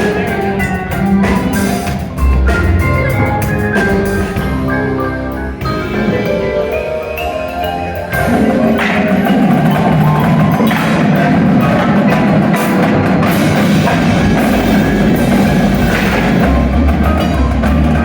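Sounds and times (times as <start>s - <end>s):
wind band playing low chords: 0.0s - 18.0s.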